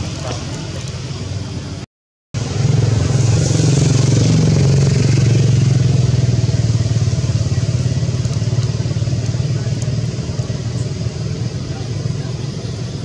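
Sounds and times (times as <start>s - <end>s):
motor engine droning: 2.4s - 13.0s.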